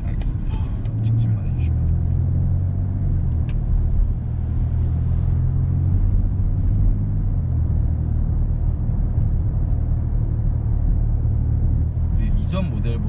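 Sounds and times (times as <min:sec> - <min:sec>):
diesel engine droning in cabin: 0:00.0 - 0:13.0.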